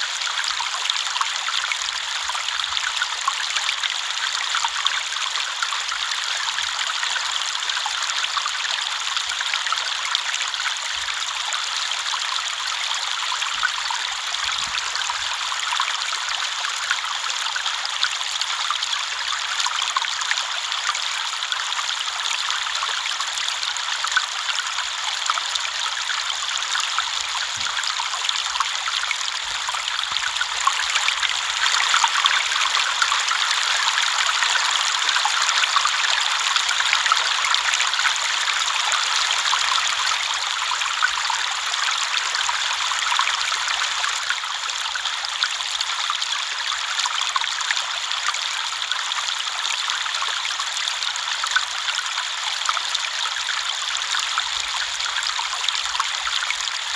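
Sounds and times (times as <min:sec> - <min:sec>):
river water flowing over stones: 0:00.0 - 0:56.9.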